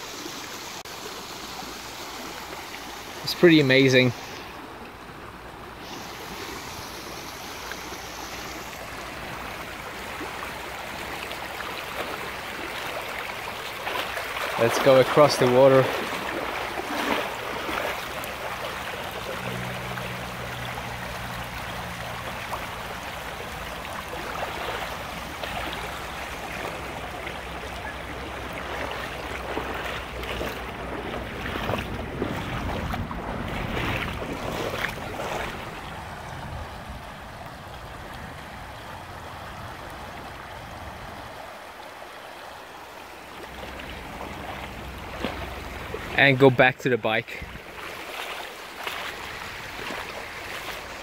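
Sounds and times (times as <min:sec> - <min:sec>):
river running over stones: 0:00.0 - 0:51.0
splashing steps in water: 0:05.9 - 0:40.4, 0:43.3 - 0:46.7, 0:47.3 - 0:51.0.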